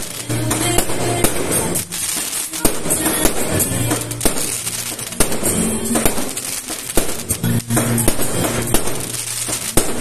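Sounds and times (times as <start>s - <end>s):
fireworks bursting: 0.0s - 10.0s
music playing: 0.0s - 10.0s.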